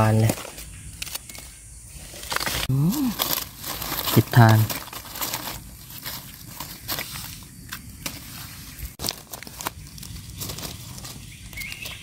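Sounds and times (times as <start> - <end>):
dry leaves rustling and crackling: 0.0 - 12.0.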